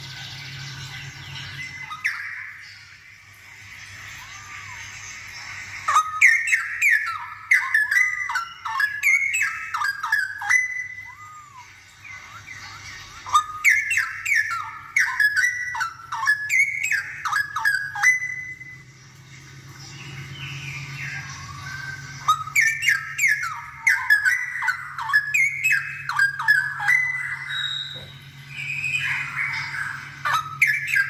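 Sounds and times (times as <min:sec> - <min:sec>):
bird whistling song: 0:00.0 - 0:19.0, 0:19.7 - 0:31.0.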